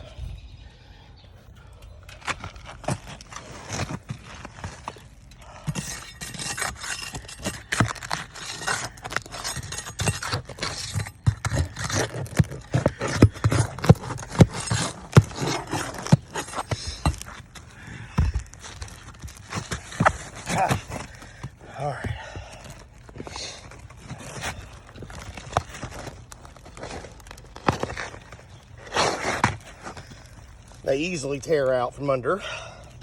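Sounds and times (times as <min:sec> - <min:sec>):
roof shingles scraping and tearing: 0:02.1 - 0:32.4.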